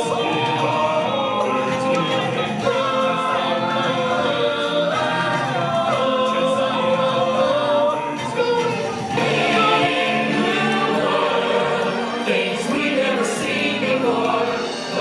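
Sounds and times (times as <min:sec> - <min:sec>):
chorus of singers: 0:00.0 - 0:15.0
recorded band playing: 0:00.0 - 0:15.0.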